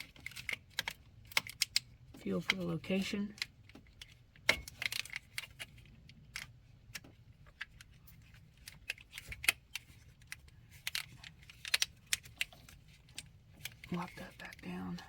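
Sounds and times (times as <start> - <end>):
plastic clips clicking and rattling: 0.0 - 15.0.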